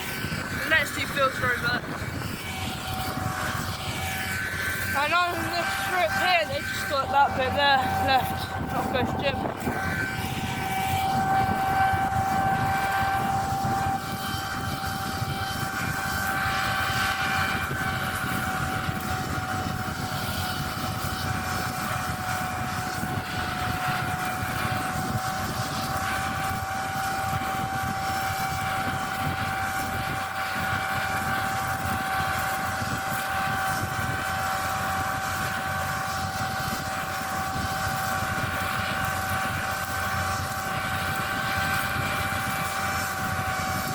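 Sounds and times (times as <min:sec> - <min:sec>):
combine harvester droning: 0:00.0 - 0:43.9.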